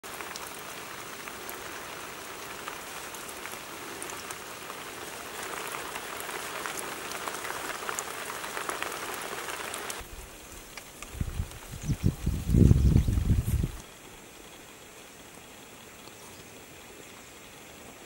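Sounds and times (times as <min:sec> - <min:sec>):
rain falling on leaves: 0:00.0 - 0:18.0.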